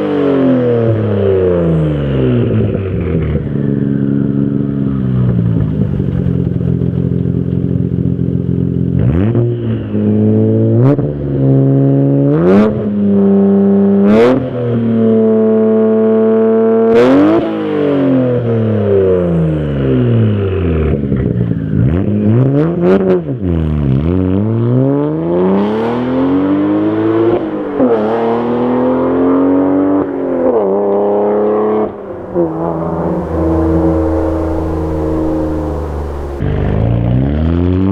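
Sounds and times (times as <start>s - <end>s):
car engine accelerating and shifting: 0.0s - 18.4s, 21.2s - 36.7s.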